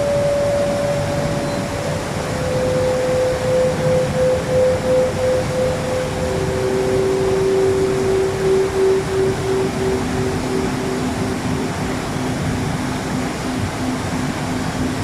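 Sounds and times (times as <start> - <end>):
long ringing euphone tones: 0.0 - 15.0
waterfall rushing: 0.0 - 15.0.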